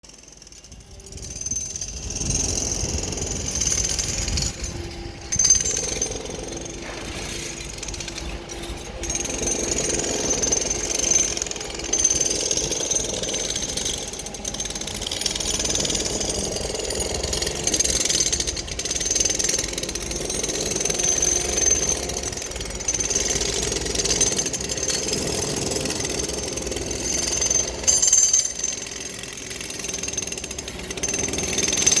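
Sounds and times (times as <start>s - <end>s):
jackhammer pounding: 0.1s - 32.0s.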